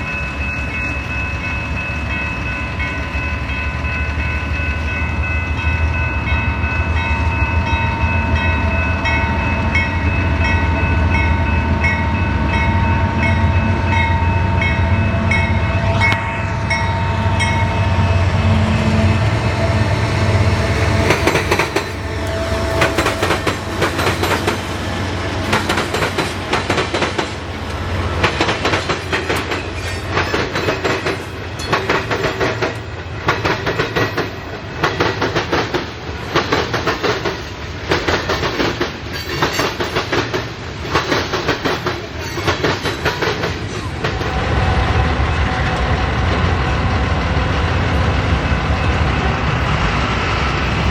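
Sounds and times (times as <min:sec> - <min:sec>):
diesel locomotive engine drone: 0:00.0 - 0:50.9
railcars clattering over rail joints: 0:00.0 - 0:50.9.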